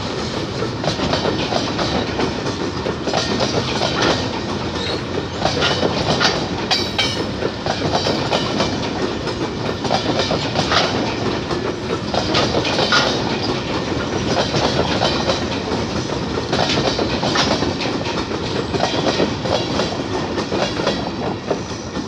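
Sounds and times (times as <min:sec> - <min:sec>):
train running noise: 0:00.0 - 0:22.0
wheels clattering over rail joints: 0:00.0 - 0:22.0.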